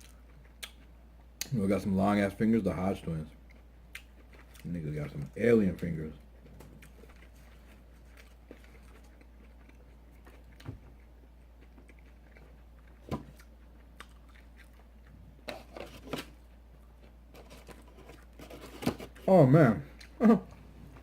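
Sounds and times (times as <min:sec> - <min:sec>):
person chewing: 0:00.0 - 0:01.5, 0:03.4 - 0:05.3, 0:06.3 - 0:19.3, 0:19.9 - 0:21.0.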